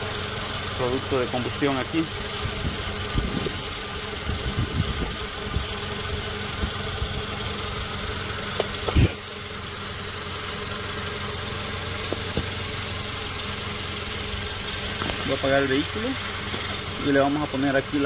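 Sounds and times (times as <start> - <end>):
low engine thumps: 0.0 - 9.4, 11.5 - 18.0
car engine idling: 0.0 - 18.0.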